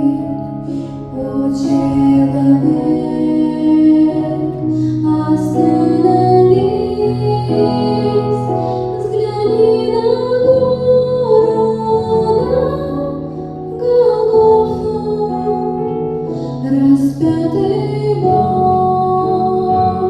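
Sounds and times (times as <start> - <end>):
slow song with woman singing: 0.0 - 20.0.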